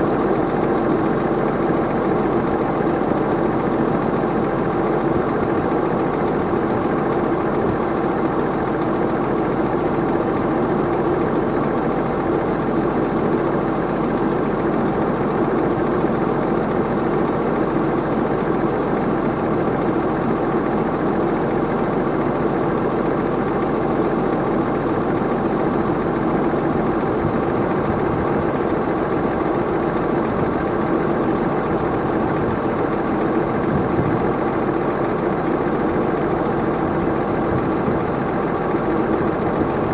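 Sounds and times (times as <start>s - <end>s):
tractor and baler running: 0.0s - 39.9s.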